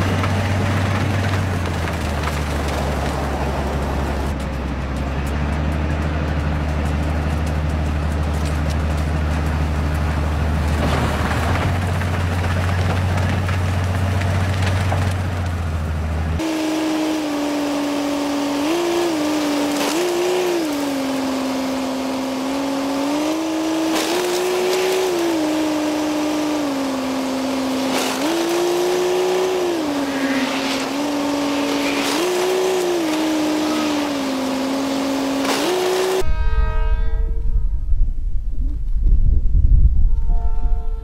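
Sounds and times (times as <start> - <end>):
snowplough machine whine: 0.0 - 36.8.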